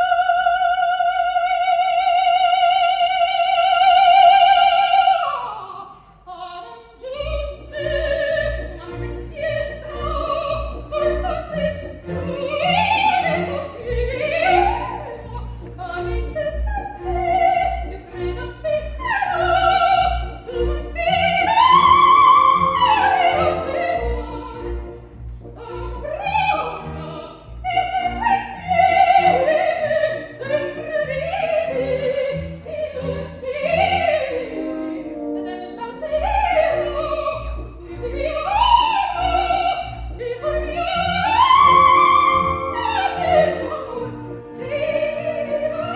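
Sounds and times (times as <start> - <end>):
orchestra: 0.0 - 45.9
soprano singing opera aria: 0.0 - 45.9.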